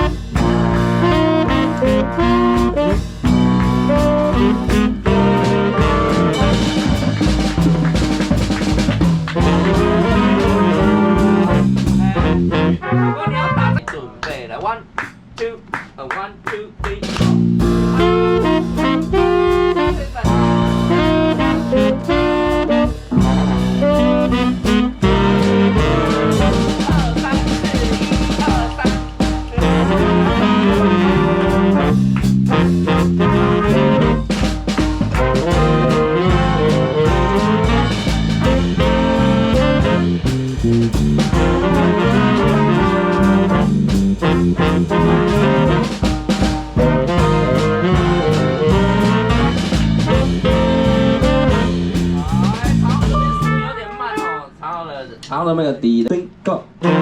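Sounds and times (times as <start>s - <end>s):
swing band playing jazz: 0.0s - 13.9s, 16.8s - 54.6s, 56.8s - 57.0s
steady drum beat: 0.0s - 54.5s.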